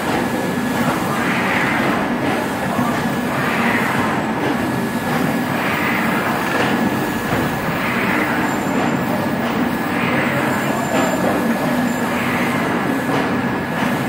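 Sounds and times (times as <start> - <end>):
machine clatter and hum: 0.0 - 14.0.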